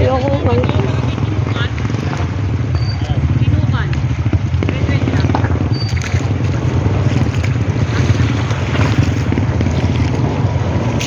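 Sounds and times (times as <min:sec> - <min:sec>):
rushing water: 0:00.0 - 0:11.0
vehicle engine rumbling: 0:00.0 - 0:11.0
wind noise on microphone: 0:00.0 - 0:11.0.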